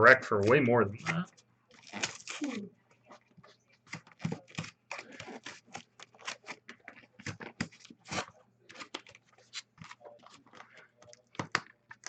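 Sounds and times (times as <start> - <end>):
packaging tearing and crinkling: 0.4 - 2.6, 3.9 - 12.0.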